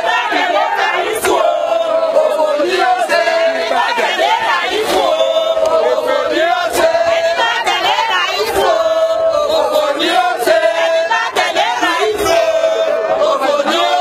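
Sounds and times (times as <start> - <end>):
women singing and chanting: 0.0 - 14.0.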